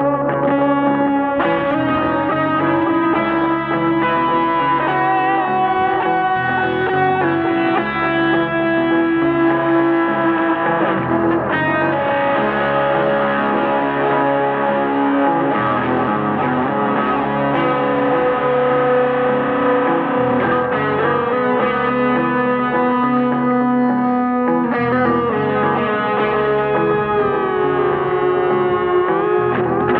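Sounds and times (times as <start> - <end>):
distorted electric guitar: 0.0 - 29.9.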